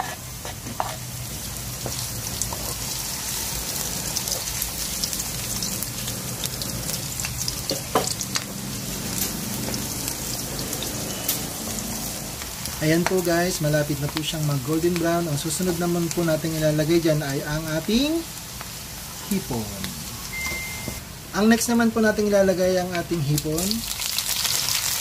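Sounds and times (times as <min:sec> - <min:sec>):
garlic and onion sizzling in oil: 0:00.0 - 0:25.0.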